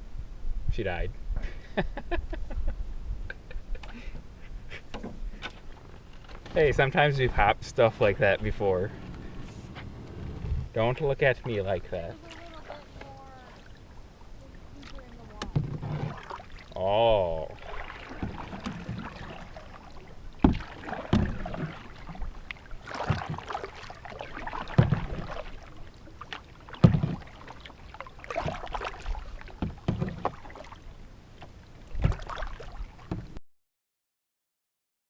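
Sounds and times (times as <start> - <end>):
paddle splashing in water: 3.7 - 33.4.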